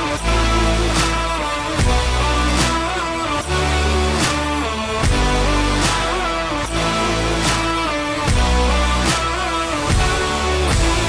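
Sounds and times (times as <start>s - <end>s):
guitar-led instrumental music: 0.0s - 11.0s.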